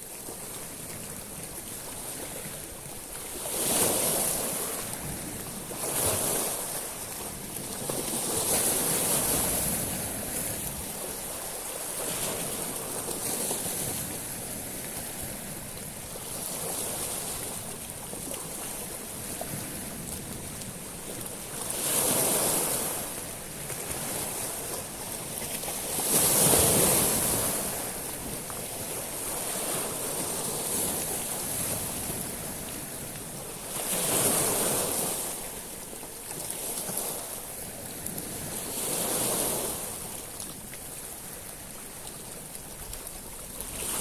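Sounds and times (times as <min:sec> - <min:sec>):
waves washing over shingle: 0:00.0 - 0:44.0.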